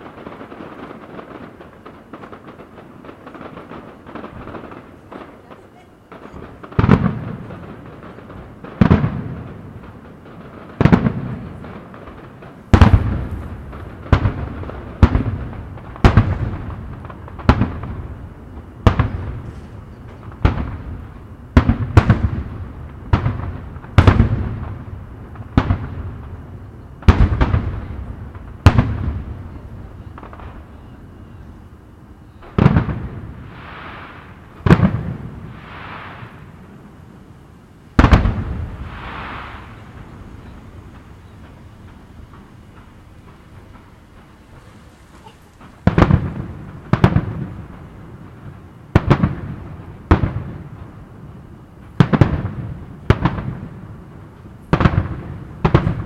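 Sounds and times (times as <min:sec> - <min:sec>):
fireworks bursting with echoing booms: 0:00.0 - 0:56.0.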